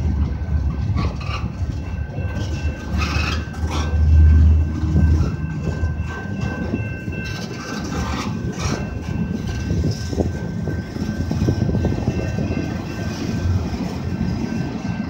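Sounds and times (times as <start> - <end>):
train wheels rumbling on rail: 0.0 - 15.0
high-pitched tone: 1.4 - 15.0.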